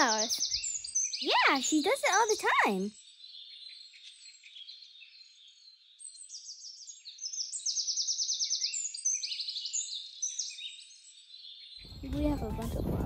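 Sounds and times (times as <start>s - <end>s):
songbirds trilling: 0.0s - 12.0s.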